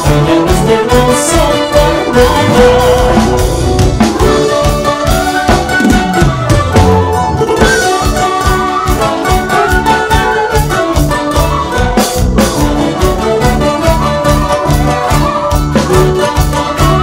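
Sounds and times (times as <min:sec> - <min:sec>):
cane flute melody: 0:00.0 - 0:17.0
steady drum beat: 0:00.0 - 0:17.0
strummed guitars: 0:00.0 - 0:17.0.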